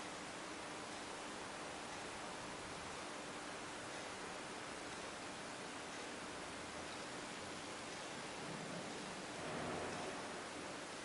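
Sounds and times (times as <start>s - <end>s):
faint steady hum: 0.0s - 11.0s
recording noise hiss: 0.0s - 11.0s.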